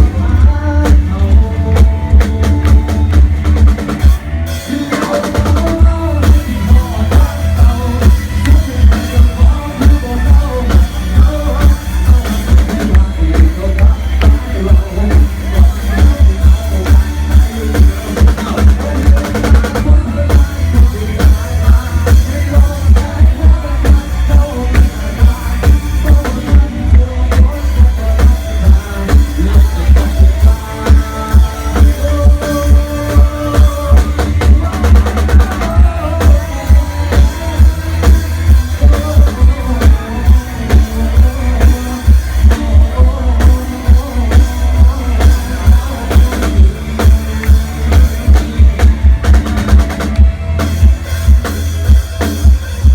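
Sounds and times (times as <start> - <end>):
heavy bass-drum beat: 0.0 - 52.9
loud music over speakers: 0.0 - 52.9.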